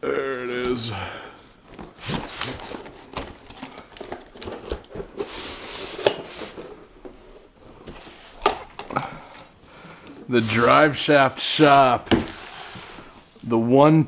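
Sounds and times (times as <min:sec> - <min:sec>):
cardboard packaging rustling: 0:01.5 - 0:13.5.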